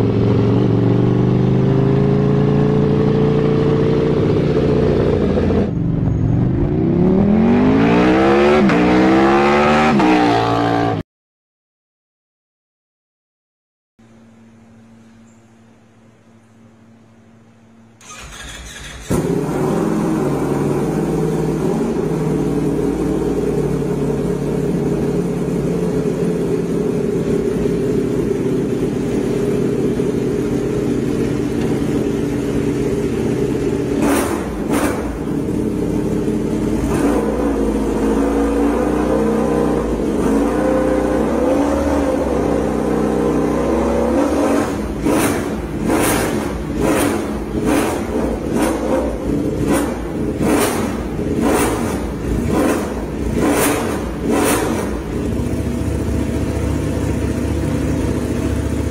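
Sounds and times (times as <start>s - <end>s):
motorcycle engine idling and revving: 0.0s - 11.0s, 16.4s - 58.9s.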